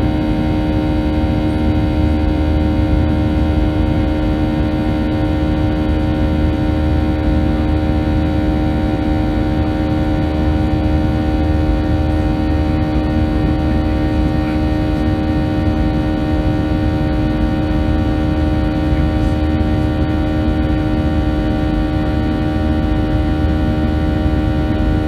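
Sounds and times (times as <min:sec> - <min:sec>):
jet engine cabin drone: 0:00.0 - 0:25.0.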